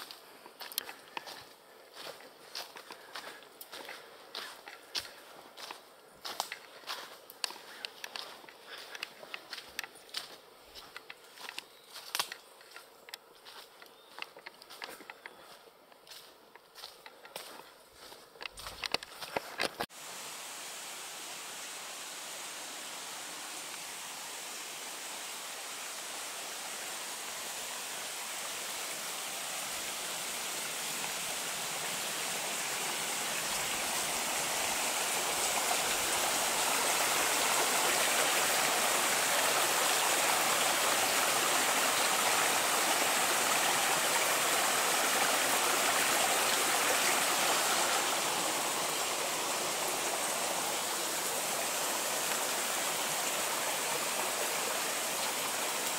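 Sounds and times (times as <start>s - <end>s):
brook running over rocks: 0.0s - 20.1s, 21.2s - 55.9s.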